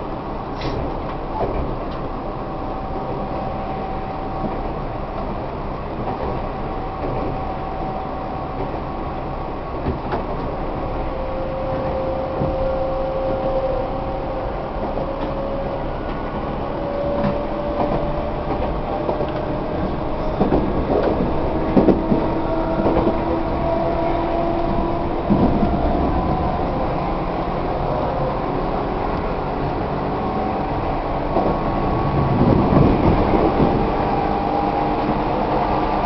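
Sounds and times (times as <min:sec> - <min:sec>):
train rumble inside carriage: 0:00.0 - 0:36.0.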